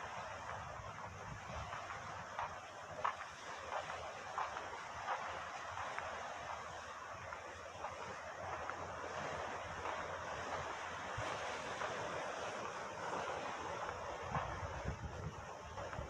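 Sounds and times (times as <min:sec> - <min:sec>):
waves washing onto beach: 0:00.0 - 0:16.0
wind on microphone: 0:00.0 - 0:16.0.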